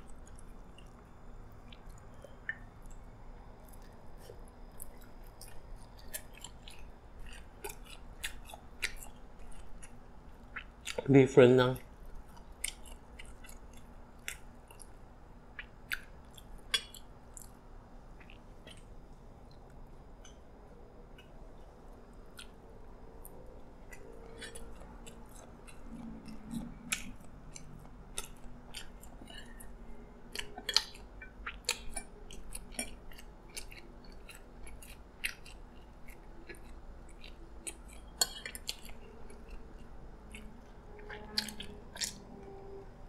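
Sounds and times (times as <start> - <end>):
chewing food: 0.0 - 43.0.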